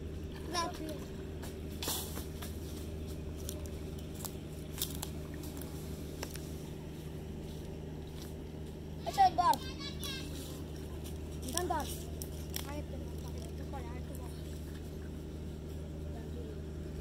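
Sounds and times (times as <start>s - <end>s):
steady low hum: 0.0s - 17.0s
water splashing and sloshing: 0.0s - 17.0s.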